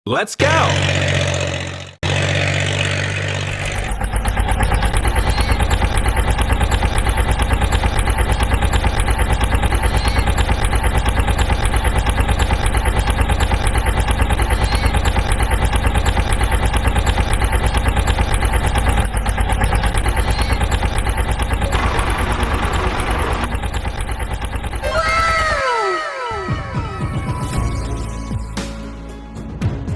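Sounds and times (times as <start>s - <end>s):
cartoon engine fast pulse: 0.4s - 27.8s.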